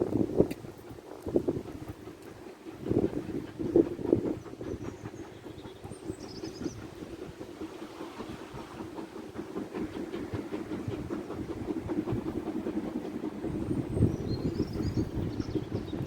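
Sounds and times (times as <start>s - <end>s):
steam train clattering: 0.0s - 16.0s.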